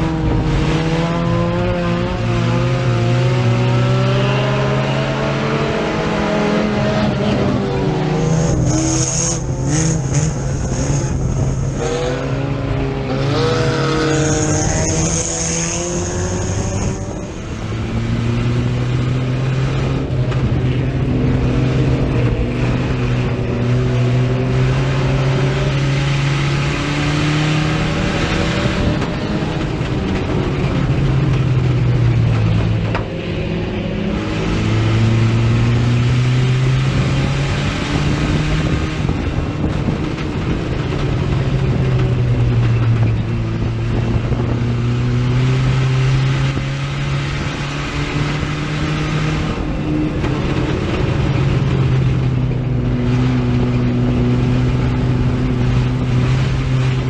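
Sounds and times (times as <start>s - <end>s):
race car engine: 0.0s - 57.0s.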